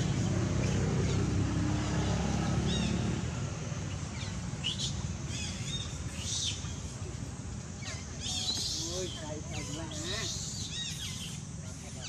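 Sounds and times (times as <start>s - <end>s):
motor vehicle rumble: 0.0s - 11.7s.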